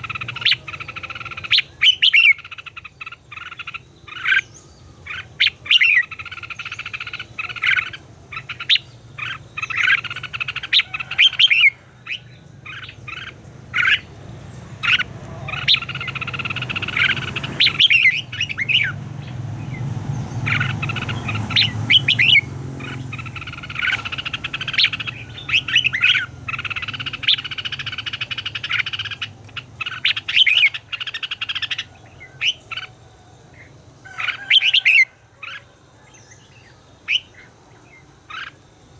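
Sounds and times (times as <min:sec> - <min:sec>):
bird singing warbling phrases: 0:00.0 - 0:38.8.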